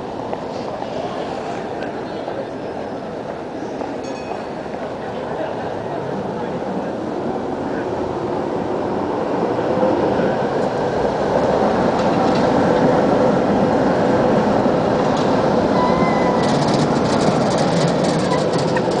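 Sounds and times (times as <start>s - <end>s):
tram rolling past: 0.0s - 19.0s.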